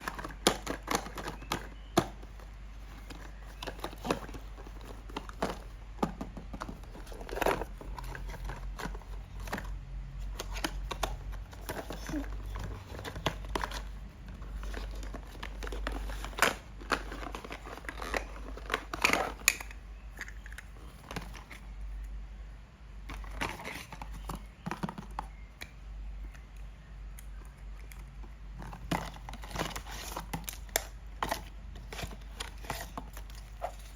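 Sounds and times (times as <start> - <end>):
plastic and paper crinkling: 0.0 - 22.0, 23.1 - 25.6, 27.3 - 33.9
low steady hum: 0.0 - 33.9.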